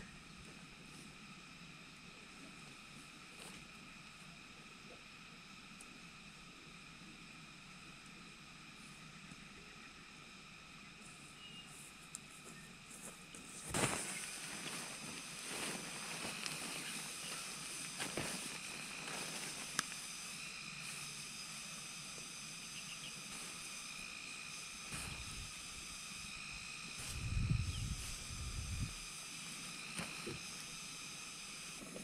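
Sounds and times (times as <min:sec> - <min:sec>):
high outdoor hiss: 0:00.0 - 0:32.0.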